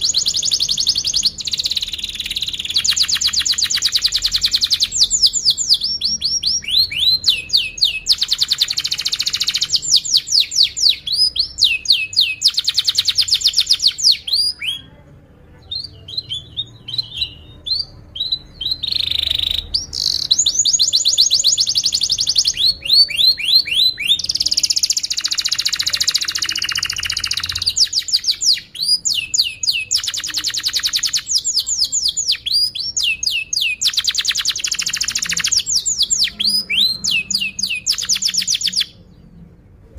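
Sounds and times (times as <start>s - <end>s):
canary singing rapid trills: 0.0s - 14.9s, 15.7s - 39.3s.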